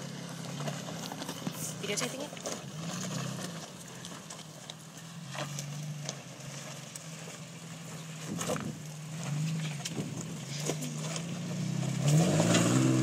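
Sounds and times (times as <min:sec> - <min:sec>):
tyres crunching over rocks: 0:00.0 - 0:13.0
vehicle engine at low revs: 0:00.0 - 0:13.0.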